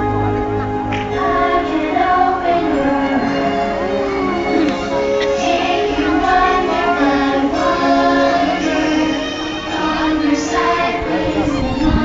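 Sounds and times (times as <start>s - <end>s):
music with choir singing: 0.0s - 12.0s.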